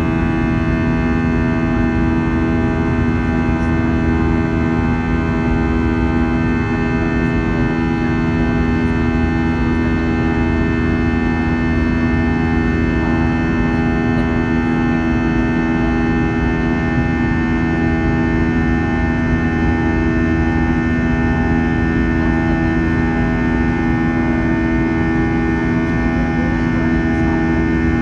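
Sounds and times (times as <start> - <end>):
jet engines droning in cabin: 0.0 - 28.0.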